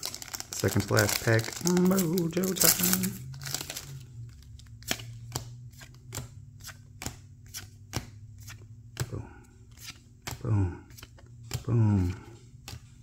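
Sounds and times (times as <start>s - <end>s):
trading cards flipping: 0.0s - 13.0s.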